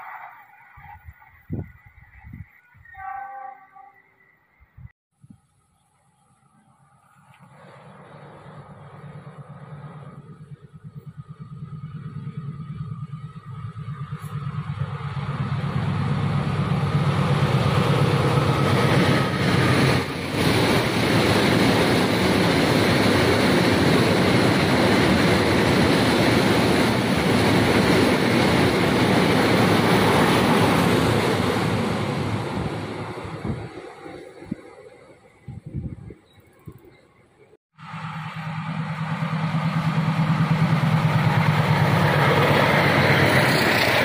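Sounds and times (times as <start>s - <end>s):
locomotive engine hum: 5.8s - 44.0s
train wagons rushing past: 6.8s - 37.1s, 37.8s - 44.0s.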